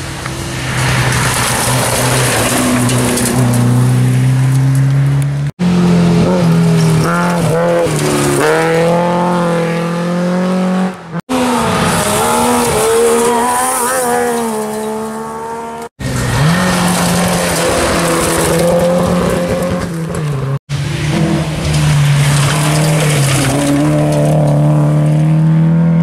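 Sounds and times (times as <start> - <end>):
rally cars passing at high revs: 0.0 - 26.0.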